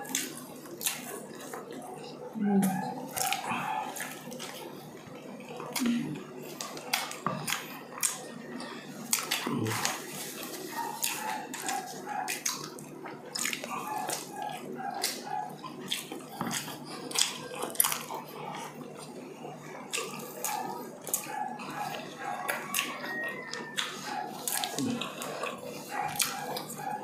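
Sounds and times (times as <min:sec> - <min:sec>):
people chewing food: 0:00.0 - 0:27.0.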